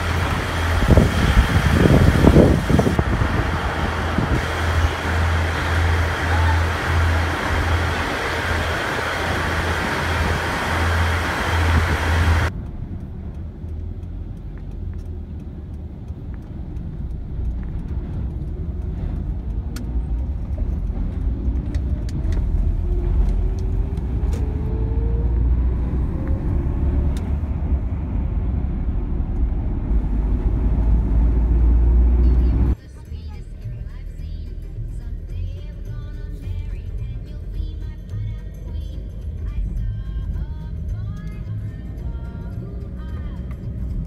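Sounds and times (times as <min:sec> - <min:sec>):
diesel railcar humming: 0:00.0 - 0:44.0
distant road vehicle engine: 0:00.0 - 0:44.0
low rumble: 0:00.0 - 0:44.0.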